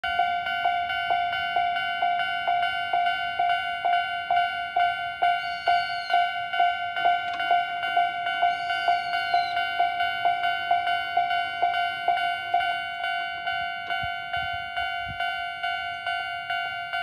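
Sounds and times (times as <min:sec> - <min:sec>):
level crossing bell dinging: 0:00.0 - 0:17.0.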